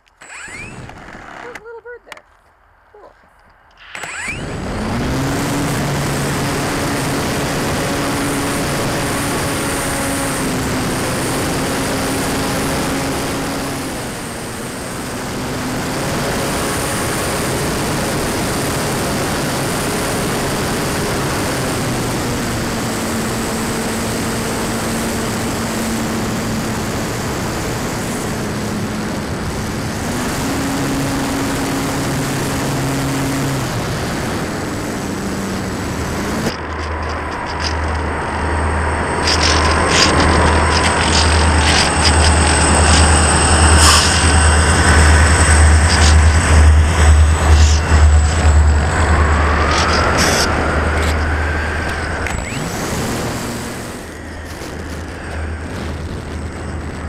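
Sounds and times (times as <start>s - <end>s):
electric motor and propeller whine: 0.0s - 1.6s, 3.7s - 57.0s.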